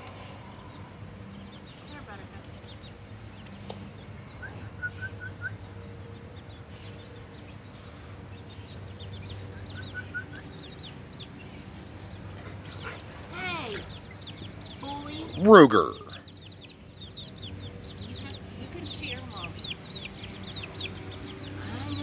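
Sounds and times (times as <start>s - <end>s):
baby chicks peeping: 0.0s - 22.0s.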